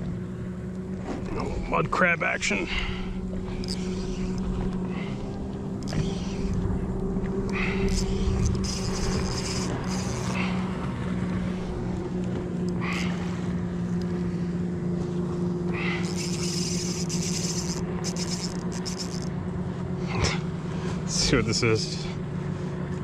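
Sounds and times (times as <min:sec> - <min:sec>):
motorboat engine drone: 0:00.0 - 0:23.0.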